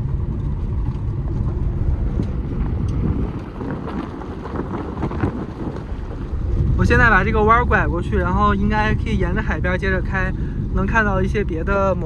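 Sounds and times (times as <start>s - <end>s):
car engine and road noise: 0.0s - 12.0s
wind noise: 0.0s - 12.0s.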